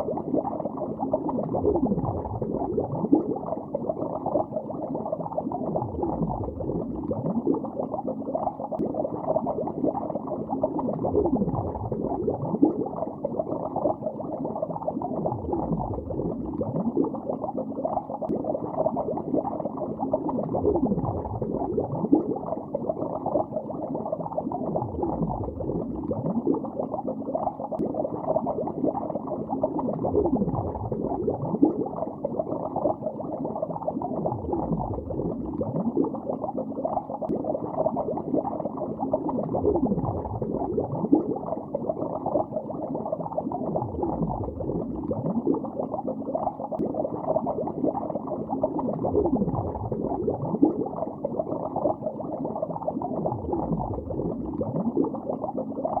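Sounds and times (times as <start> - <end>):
muffled underwater bubbling: 0.0 - 56.0.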